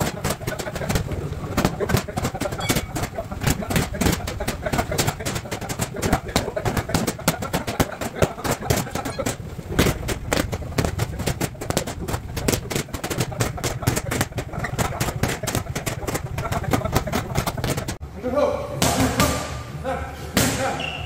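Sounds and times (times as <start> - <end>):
boxing gloves slapping focus mitts: 0.0 - 18.0
steady low rumble: 0.0 - 18.0.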